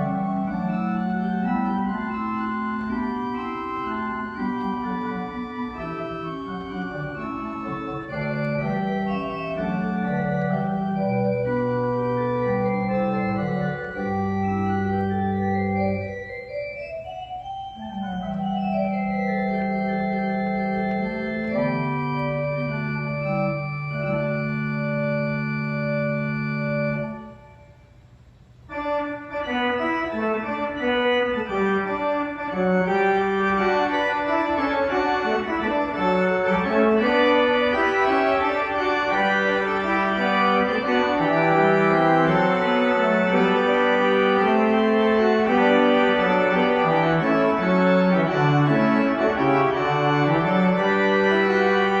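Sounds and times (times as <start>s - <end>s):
organ music: 0.0s - 52.0s.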